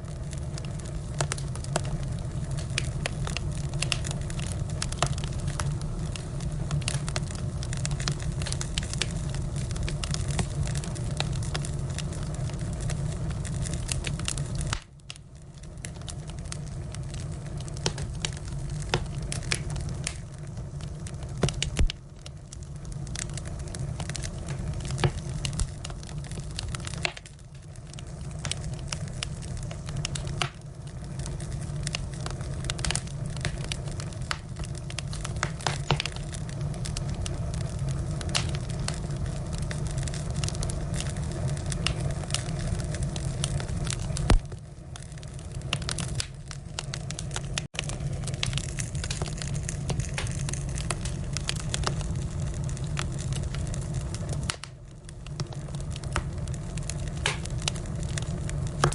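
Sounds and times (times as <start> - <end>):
firewood crackling and popping: 0.0 - 58.9
low rumble of flames: 0.0 - 58.9.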